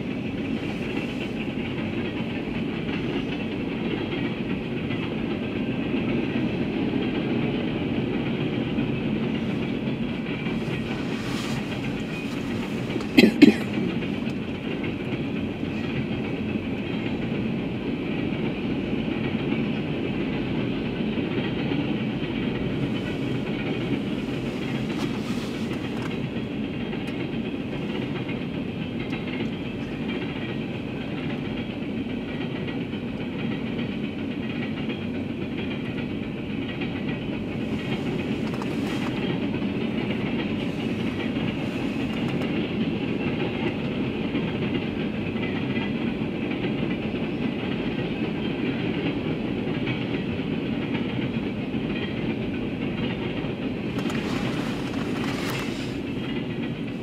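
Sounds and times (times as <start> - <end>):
freight cars rolling on rails: 0.0 - 57.0.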